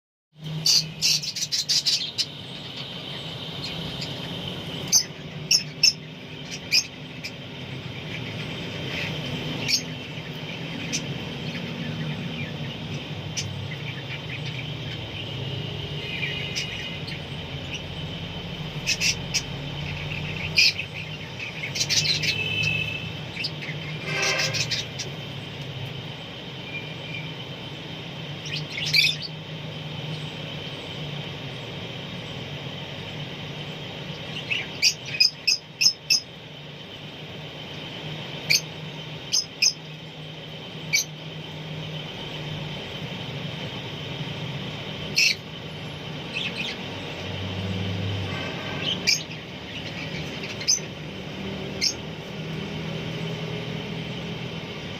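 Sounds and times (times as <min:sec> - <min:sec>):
parrots chirping: 0:00.4 - 0:54.9
steady low hum: 0:00.4 - 0:54.9.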